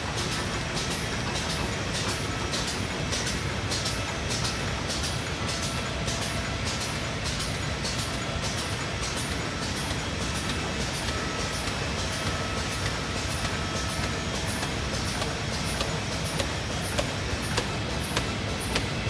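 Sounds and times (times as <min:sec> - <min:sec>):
bag making machine running: 0:00.0 - 0:19.0.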